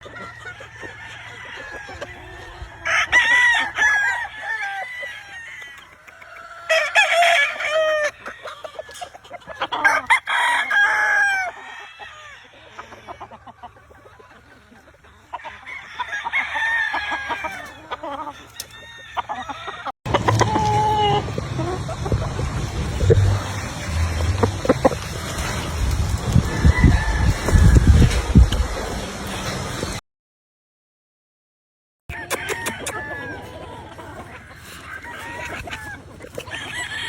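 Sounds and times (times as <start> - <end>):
chickens clucking: 0.0 - 30.0, 32.1 - 37.0
roosters crowing: 0.0 - 30.0, 32.1 - 37.0.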